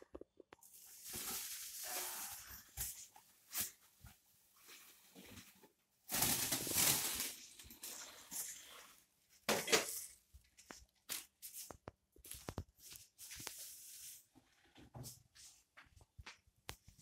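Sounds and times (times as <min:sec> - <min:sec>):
plastic and cardboard rustling: 0:00.2 - 0:14.3.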